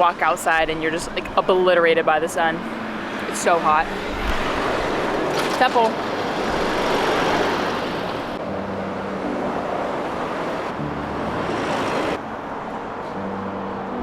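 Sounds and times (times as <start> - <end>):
passing vehicles: 0.0 - 14.0.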